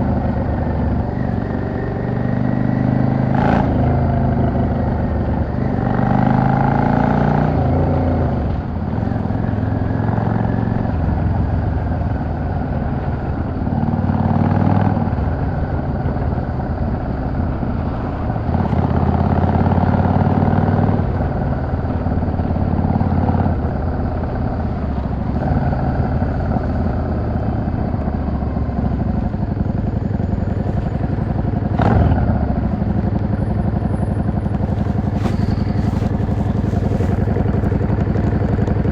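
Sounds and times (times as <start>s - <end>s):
motorcycle engine revving: 0.0s - 11.5s, 12.1s - 38.9s.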